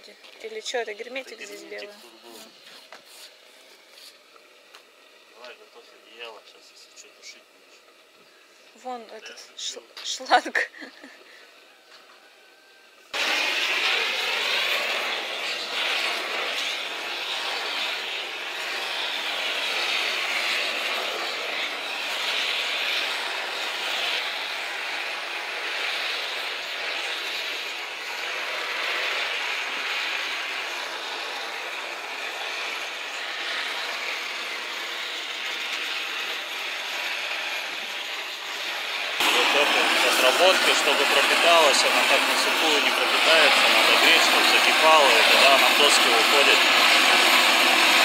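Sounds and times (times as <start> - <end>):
gas torch hissing: 0.4 - 12.4, 13.1 - 48.0.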